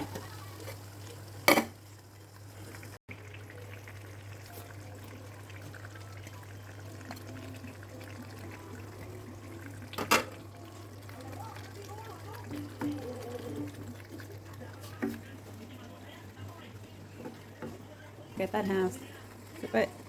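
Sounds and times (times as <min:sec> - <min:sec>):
liquid pouring and bubbling in pan: 0:00.0 - 0:20.0.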